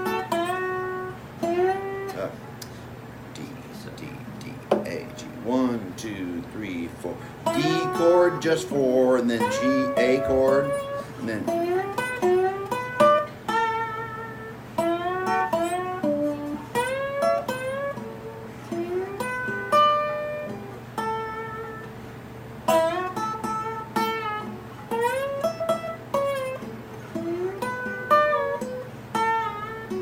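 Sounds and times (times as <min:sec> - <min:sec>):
slide guitar playing: 0:00.0 - 0:30.0.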